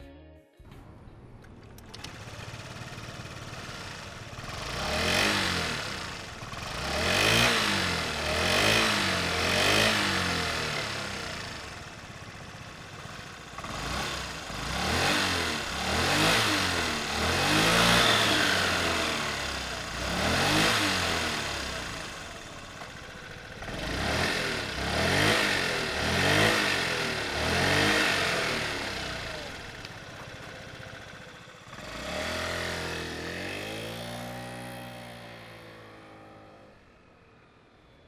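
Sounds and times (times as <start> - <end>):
scooter engine idling and revving: 1.1 - 38.0.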